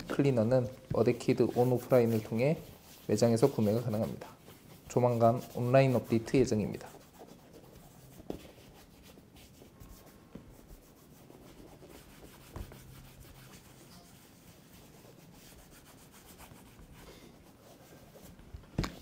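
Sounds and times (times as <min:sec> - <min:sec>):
cloth rubbing on leather: 0:00.0 - 0:19.0.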